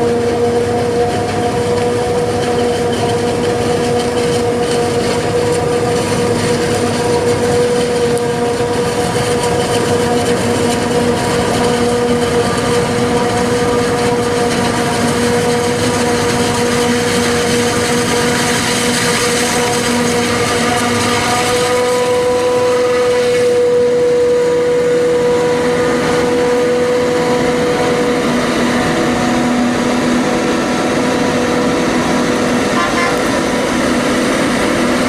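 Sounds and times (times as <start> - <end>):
forage harvester engine running: 0.0 - 35.0
steady high whine: 0.0 - 35.0.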